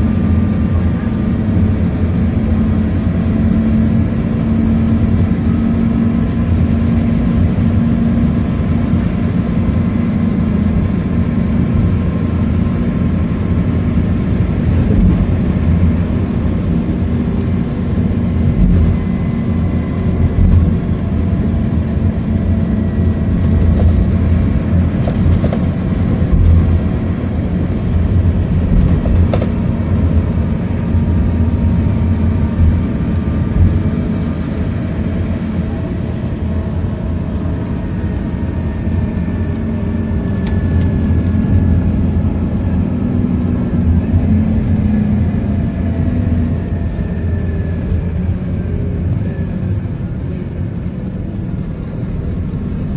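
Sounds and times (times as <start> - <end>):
bus engine drone: 0.0 - 52.9
road and tyre noise: 0.0 - 52.9.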